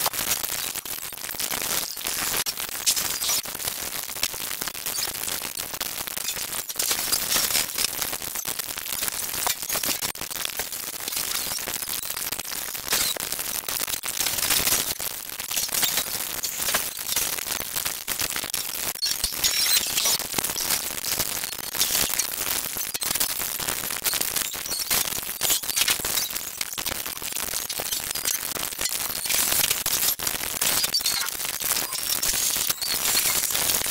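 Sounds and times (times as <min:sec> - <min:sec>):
sped-up soundtrack hiss and clicks: 0:00.0 - 0:33.9.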